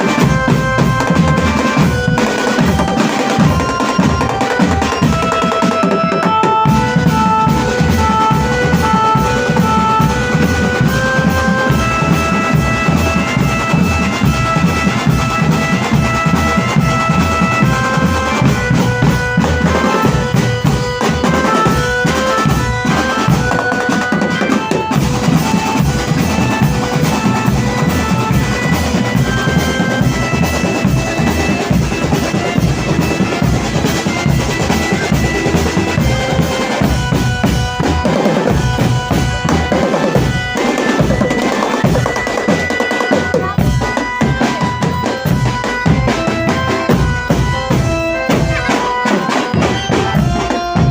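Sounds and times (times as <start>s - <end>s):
fast drumming: 0.0s - 50.9s
stepping melody: 0.0s - 50.9s.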